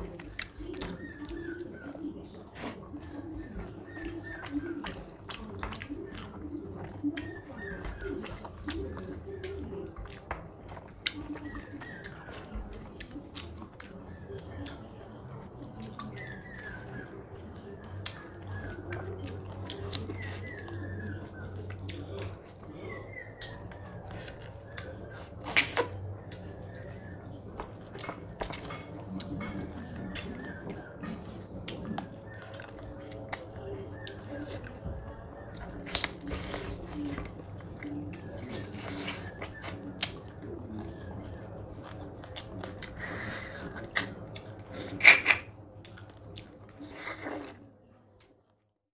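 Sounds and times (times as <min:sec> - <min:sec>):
wet chewing and lip-smacking: 0:00.0 - 0:48.4.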